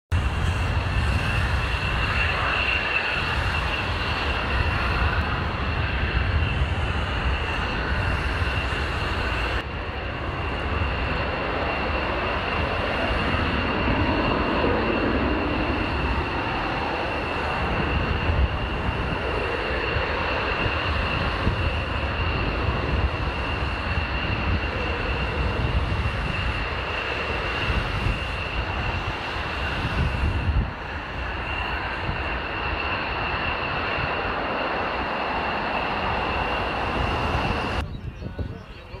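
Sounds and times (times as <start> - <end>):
aircraft turbine engines whining: 0.1 - 39.0.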